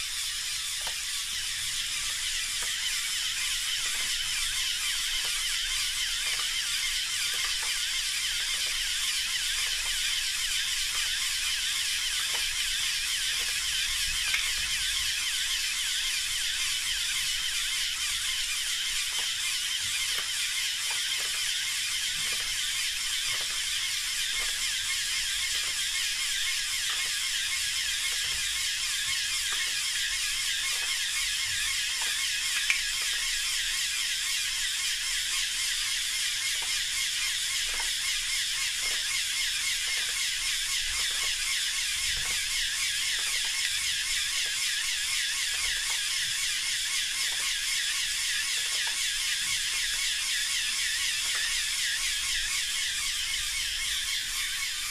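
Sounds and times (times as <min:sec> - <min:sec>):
small electric motors whirring: 0:00.0 - 0:54.9.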